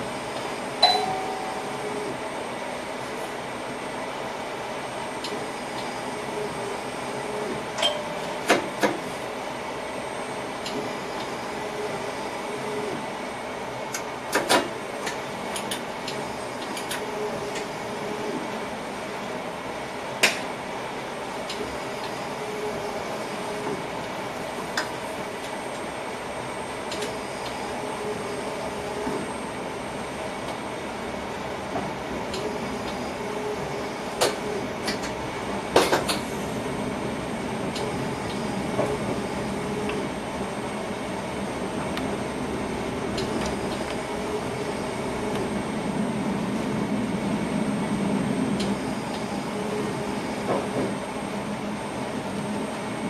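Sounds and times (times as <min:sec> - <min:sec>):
train hum and rumble: 0:00.0 - 0:53.0.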